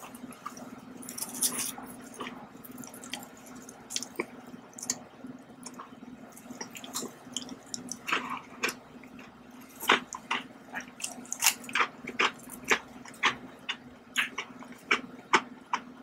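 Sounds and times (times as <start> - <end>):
chewing and crunching biscuits: 0.0 - 16.0
faint steady hum: 0.0 - 16.0.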